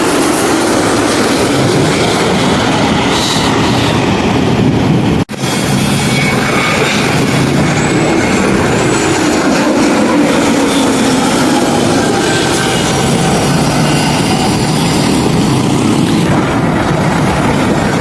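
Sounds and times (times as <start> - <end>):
airliner engines rumbling: 0.0 - 18.0.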